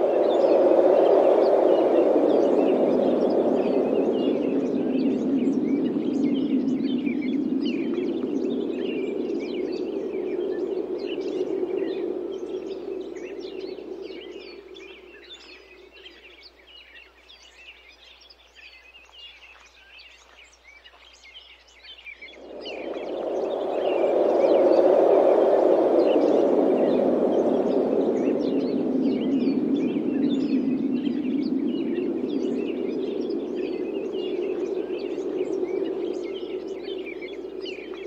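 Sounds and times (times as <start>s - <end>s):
wind gusting: 0.0s - 16.3s, 22.2s - 38.0s
small birds chirping: 0.0s - 38.0s.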